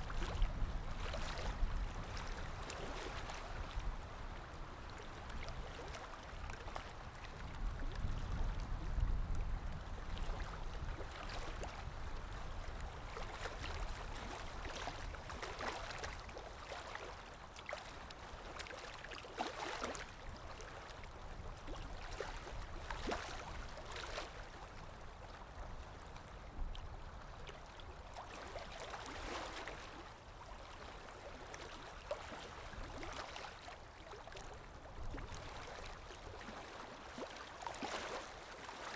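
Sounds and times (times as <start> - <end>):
small water splashes: 0.0 - 38.9
stream trickling and gurgling: 0.0 - 38.9.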